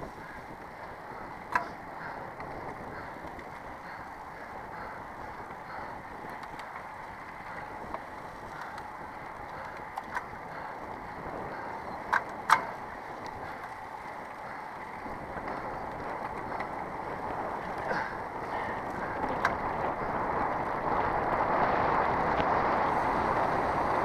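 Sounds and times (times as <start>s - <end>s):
bike clicks and knocks: 0.0s - 24.0s
bike tyres rolling on dirt: 0.0s - 24.0s
wind: 0.0s - 24.0s.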